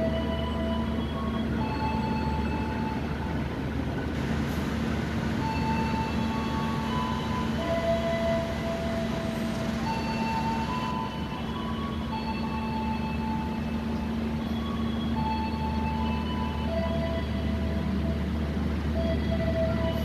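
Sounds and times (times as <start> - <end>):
diesel locomotive humming: 0.0 - 20.0.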